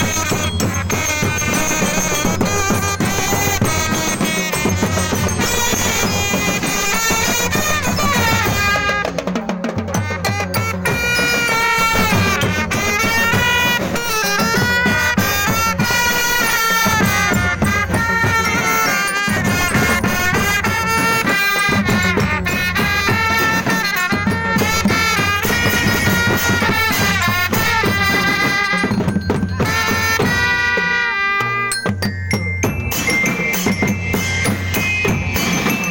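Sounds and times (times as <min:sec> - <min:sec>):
drumming and percussion: 0:00.0 - 0:35.9.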